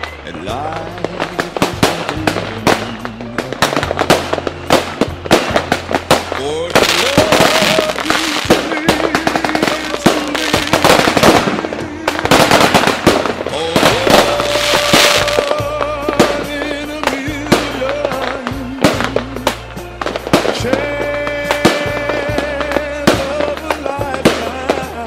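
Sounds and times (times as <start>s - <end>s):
fireworks bangs and crackles: 0.0s - 25.0s
music with long held notes: 0.0s - 25.0s.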